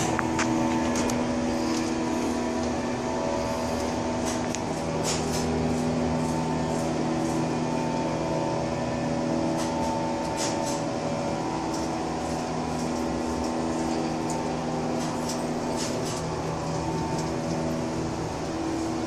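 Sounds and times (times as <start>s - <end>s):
elevator machinery humming: 0.0s - 19.0s.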